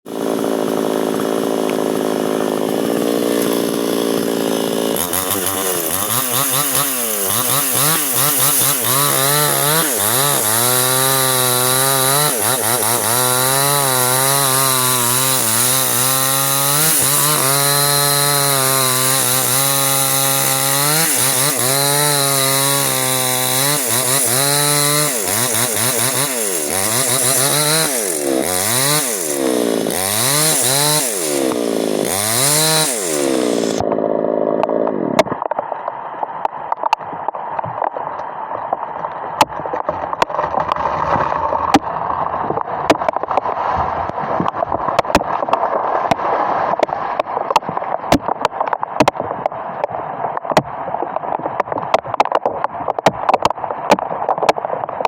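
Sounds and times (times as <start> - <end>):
chainsaw cutting wood: 0.1 - 35.6, 39.4 - 49.3, 51.6 - 55.0.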